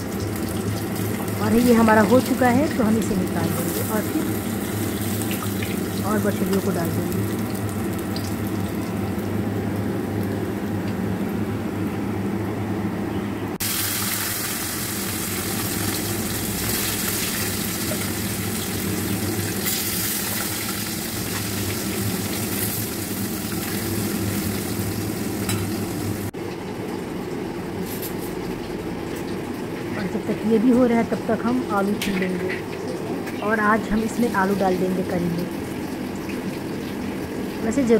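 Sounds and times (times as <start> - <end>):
fish deep-frying in hot oil: 0.0 - 10.9, 13.6 - 37.9.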